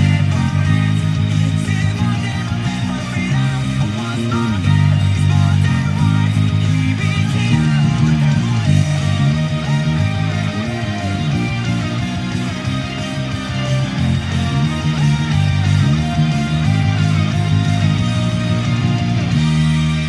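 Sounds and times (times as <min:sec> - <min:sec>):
electric bass: 0:00.0 - 0:20.0
instrumental rock music with guitar: 0:00.0 - 0:20.0.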